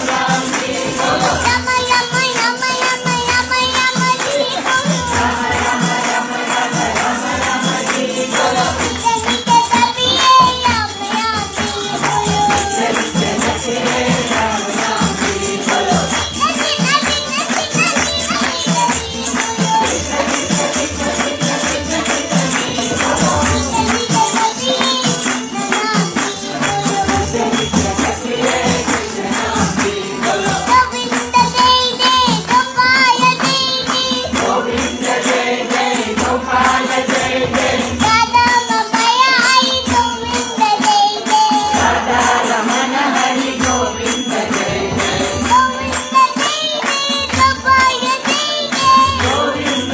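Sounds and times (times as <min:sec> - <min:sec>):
child singing: 0:00.0 - 0:49.9
instrumental accompaniment: 0:00.0 - 0:49.9
jingling percussion: 0:00.0 - 0:49.9.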